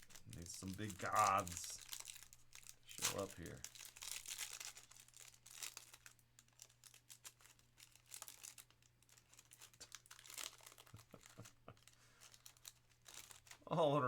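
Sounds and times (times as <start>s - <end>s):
cards rustling: 0.0s - 13.6s
wrapper crinkling and tearing: 0.0s - 13.8s.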